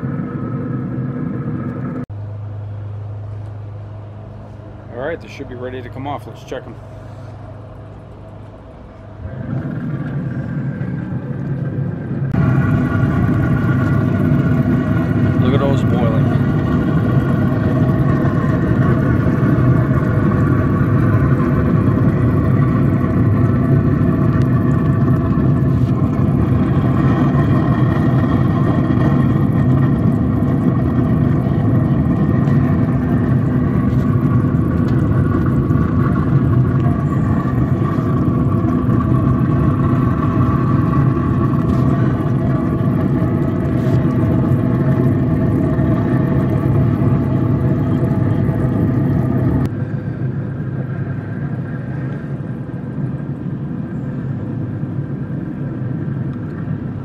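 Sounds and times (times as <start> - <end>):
smoker fan humming: 0.0 - 57.0.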